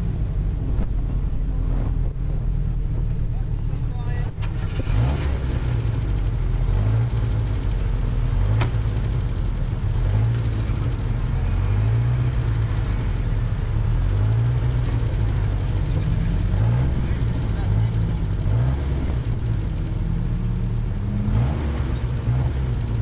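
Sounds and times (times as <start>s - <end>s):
rally car engine idling: 0.0s - 23.0s.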